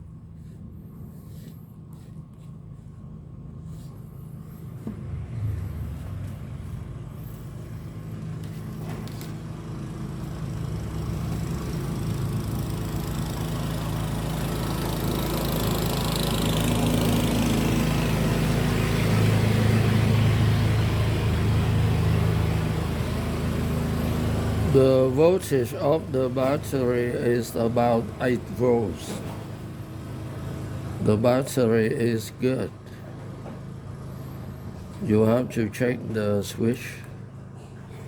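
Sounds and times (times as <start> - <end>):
low motor hum: 0.0 - 38.0.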